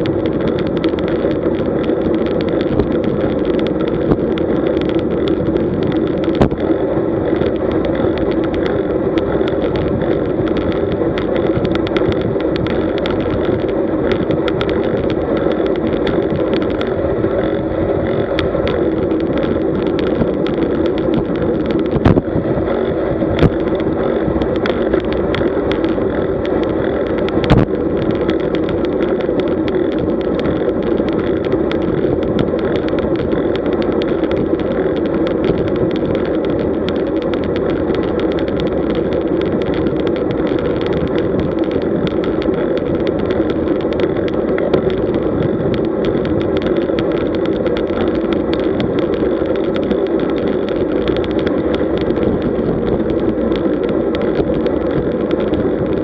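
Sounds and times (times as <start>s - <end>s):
tyres on asphalt: 0.0s - 56.0s
wind over microphone: 0.0s - 56.0s.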